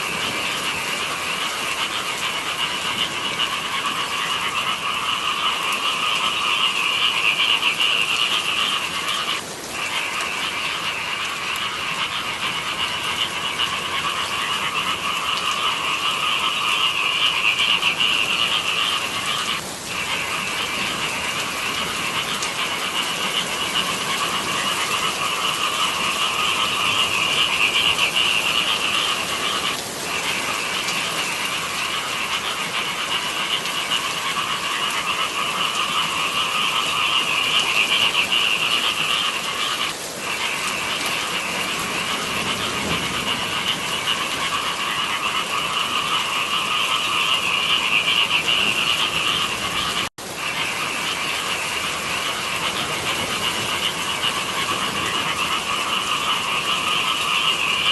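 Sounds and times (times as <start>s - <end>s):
chorus of frogs calling: 0.0s - 57.9s.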